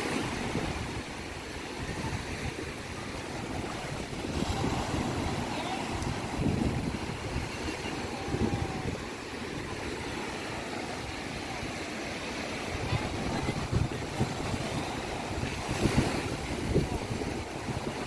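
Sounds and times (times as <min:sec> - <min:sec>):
wind buffeting microphone: 0:00.0 - 0:11.8, 0:12.5 - 0:18.0
sea surf washing: 0:00.0 - 0:18.0.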